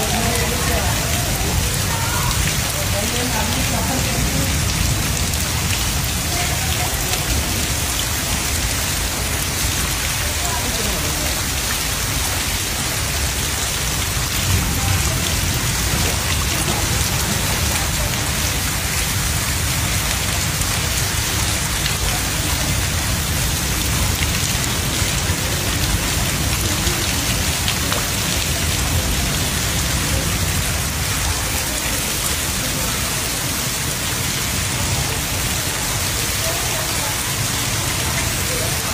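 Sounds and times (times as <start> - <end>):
heavy rain splashing on floodwater: 0.0 - 38.9.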